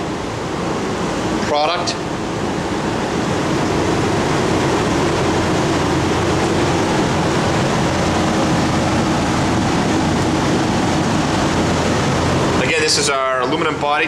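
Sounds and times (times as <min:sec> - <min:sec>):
low hum: 0:00.0 - 0:13.9
ventilation fans rushing air: 0:00.0 - 0:14.0.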